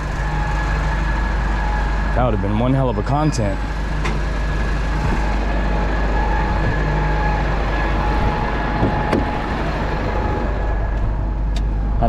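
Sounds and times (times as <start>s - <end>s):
faint steady whine: 0.0s - 12.0s
truck engine running: 0.0s - 12.0s.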